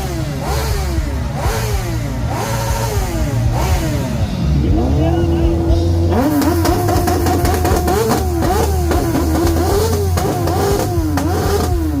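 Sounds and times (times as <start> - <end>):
exhaust crackles: 0.0 - 12.0
motorcycle engine revving: 0.0 - 12.0.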